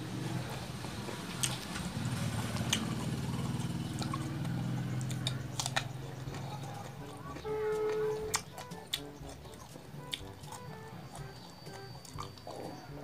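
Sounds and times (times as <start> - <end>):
chewing crunchy food: 0.2 - 13.0.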